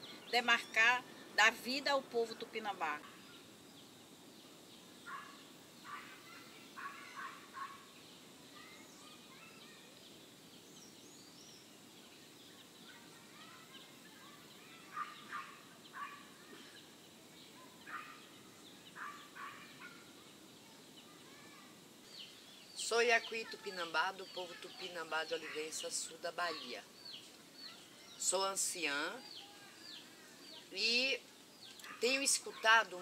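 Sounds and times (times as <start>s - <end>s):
birds calling faintly: 0.0s - 33.0s
steady low hiss: 0.0s - 33.0s.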